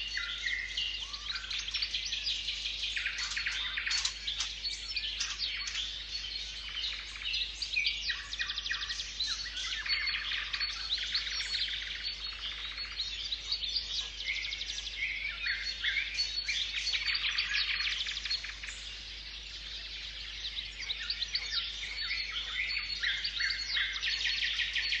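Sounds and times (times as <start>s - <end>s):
birds singing and chirping: 0.0s - 25.0s.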